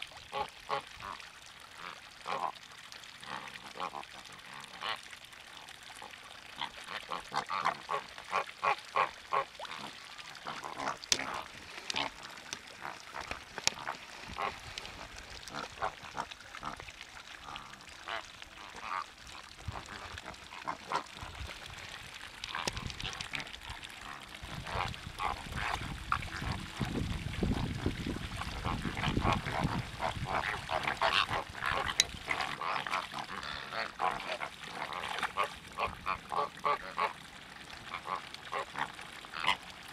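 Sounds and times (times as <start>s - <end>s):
waterbirds honking and gabbling: 0.2s - 39.9s.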